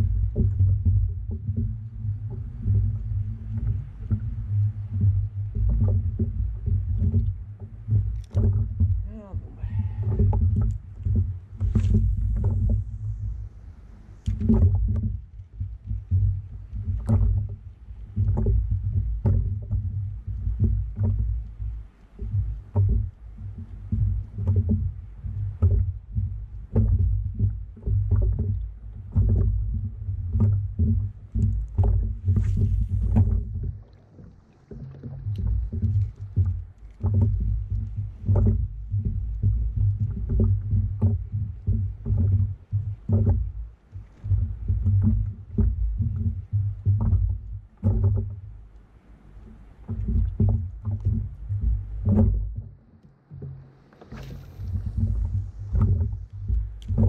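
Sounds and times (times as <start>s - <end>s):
kayak paddle strokes: 0.0s - 57.0s
low rumble: 0.0s - 57.0s
water sloshing against hull: 0.0s - 57.0s.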